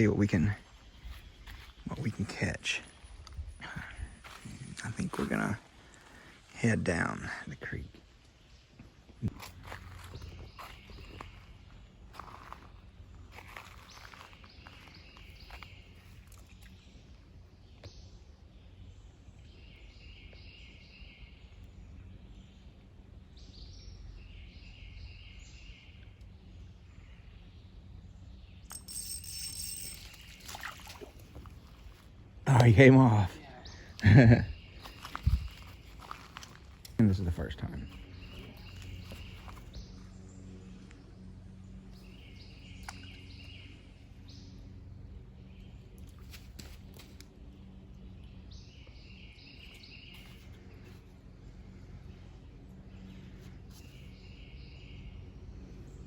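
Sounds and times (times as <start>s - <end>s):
faint outdoor background: 0.0s - 56.0s
songbird singing: 0.0s - 56.0s.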